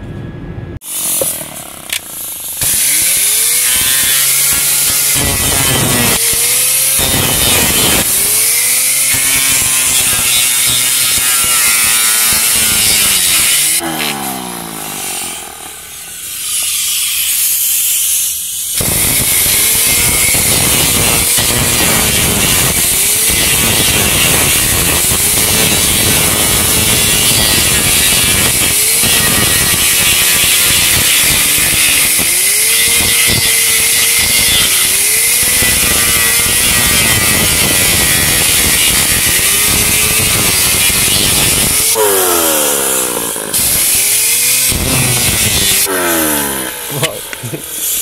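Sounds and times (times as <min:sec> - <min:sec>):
pneumatic cut-off tool grinding steel: 0:00.8 - 0:48.0.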